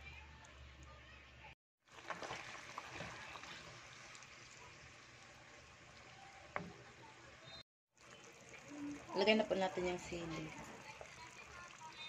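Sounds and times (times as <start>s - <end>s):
sauce bubbling in a wok: 1.8s - 12.0s.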